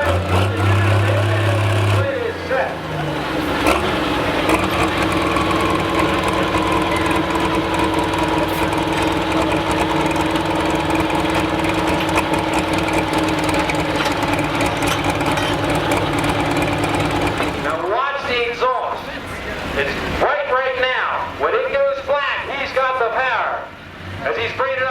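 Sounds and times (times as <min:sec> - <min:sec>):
tractor engine at high revs: 0:00.0 - 0:22.0.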